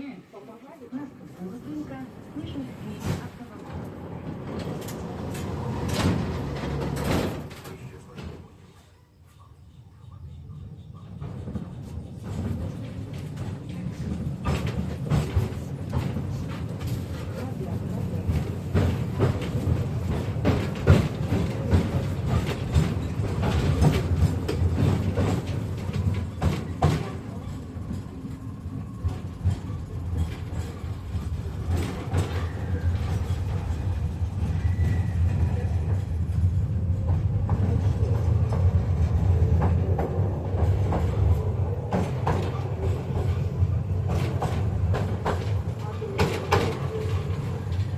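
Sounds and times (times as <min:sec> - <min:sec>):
tram rumbling along track: 0:00.0 - 0:47.9
wheels clattering on rails: 0:01.6 - 0:08.6, 0:09.4 - 0:47.9.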